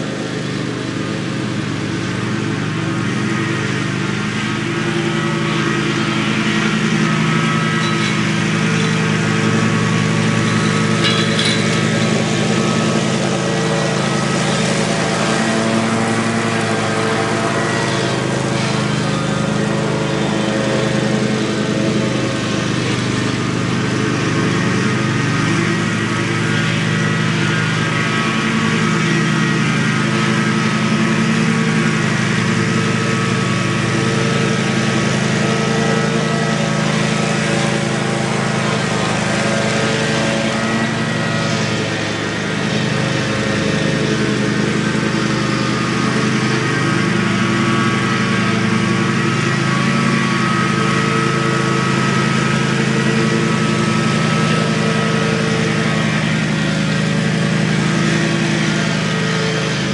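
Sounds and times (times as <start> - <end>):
lawn mower engine cutting grass: 0.0 - 59.9.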